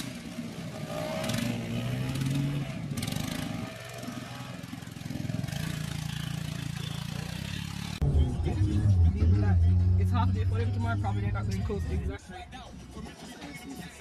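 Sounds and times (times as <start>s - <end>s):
quad bike engines revving: 0.0s - 12.2s.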